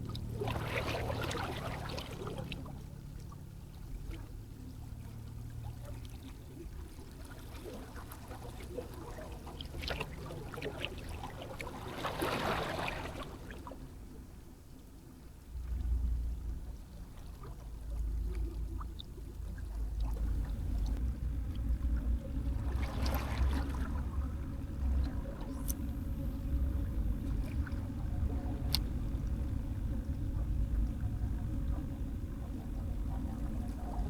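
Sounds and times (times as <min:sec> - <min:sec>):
rush of water: 0:00.0 - 0:13.8, 0:17.2 - 0:34.0
sea water at shoreline: 0:00.0 - 0:34.0
wind: 0:00.0 - 0:34.0.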